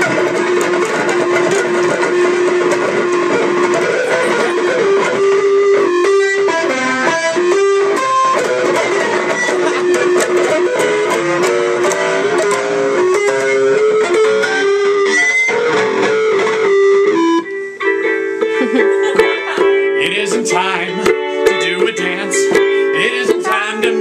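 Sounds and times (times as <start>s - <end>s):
electric guitar solo: 0.0s - 24.0s.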